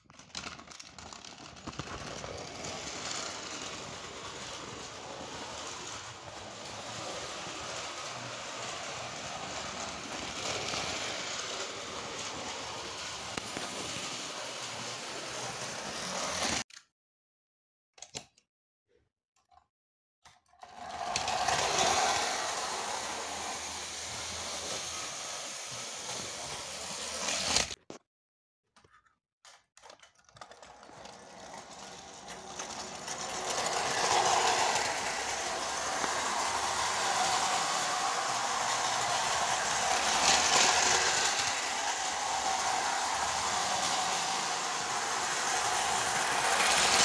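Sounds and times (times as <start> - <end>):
model train whirring: 0.2 - 16.6, 20.6 - 27.8, 29.8 - 47.0
wheels rattling on rails: 0.4 - 16.6, 20.6 - 27.7, 30.3 - 47.0.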